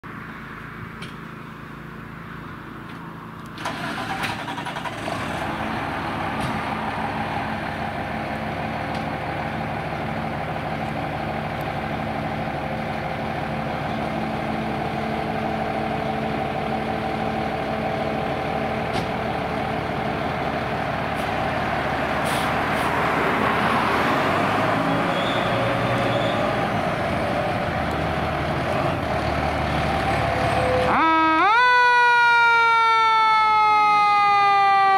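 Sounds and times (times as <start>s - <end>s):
diesel engine starting and idling: 1.4s - 31.7s.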